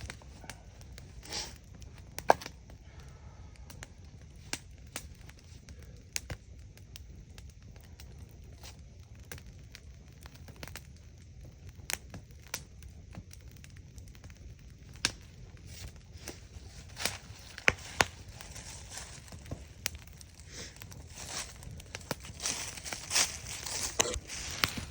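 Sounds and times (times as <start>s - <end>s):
low steady rumble: 0.0s - 9.2s, 14.1s - 24.9s
campfire crackling: 0.0s - 24.9s.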